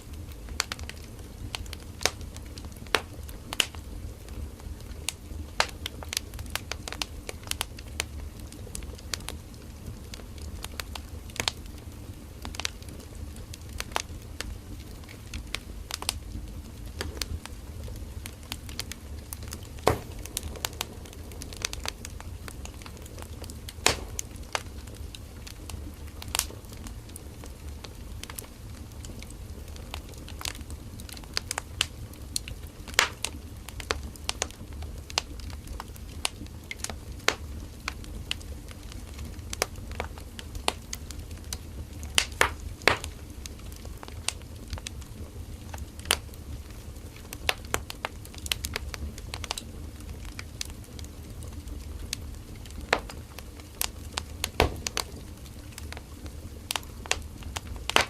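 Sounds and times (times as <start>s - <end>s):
campfire crackling and popping: 0.0s - 58.0s
low rumble of flames: 0.0s - 58.0s.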